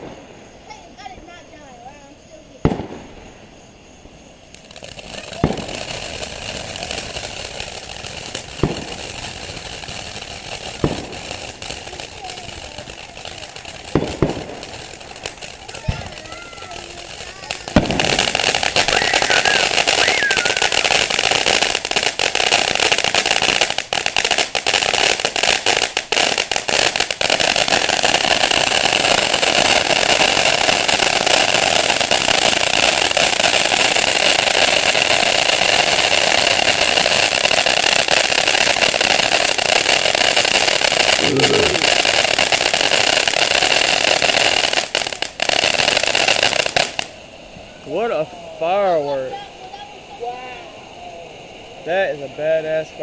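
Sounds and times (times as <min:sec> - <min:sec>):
firework crackling and fizzing: 0:00.0 - 0:53.0.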